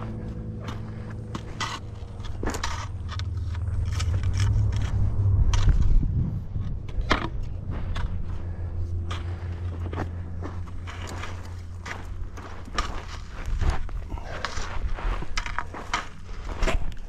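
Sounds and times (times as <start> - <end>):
boots crunching on dirt and rock: 0.0 - 5.1, 7.3 - 17.0
low rumble: 0.0 - 17.0.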